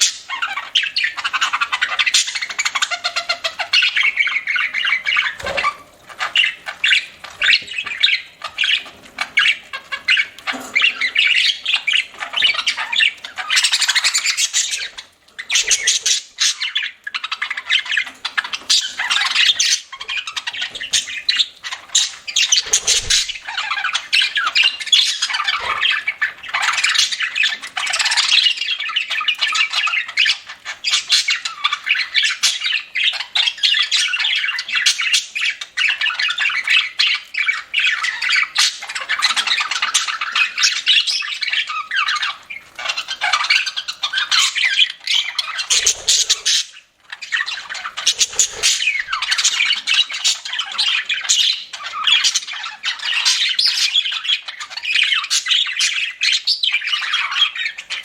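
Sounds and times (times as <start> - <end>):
budgerigar chatter: 0.0 - 58.0.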